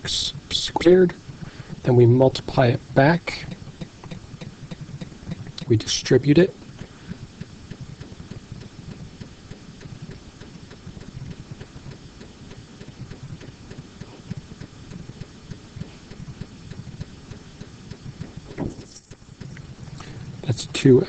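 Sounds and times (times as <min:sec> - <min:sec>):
steady low rumble: 0:00.0 - 0:21.0
stylus tapping and scraping tablet: 0:00.7 - 0:20.3.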